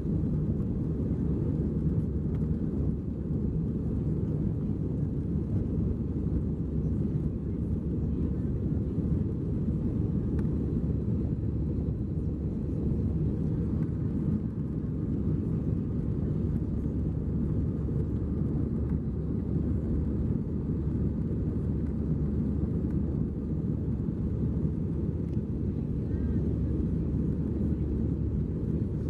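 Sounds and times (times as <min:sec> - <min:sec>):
airflow over fuselage: 0:00.0 - 0:29.0
jet engines rumbling: 0:00.0 - 0:29.0.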